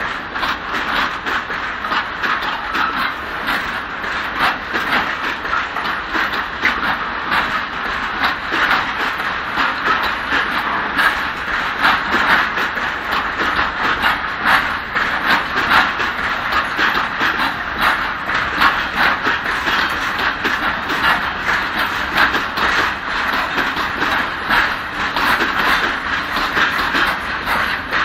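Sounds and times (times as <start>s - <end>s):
wheels clicking over rail joints: 0.0s - 28.0s.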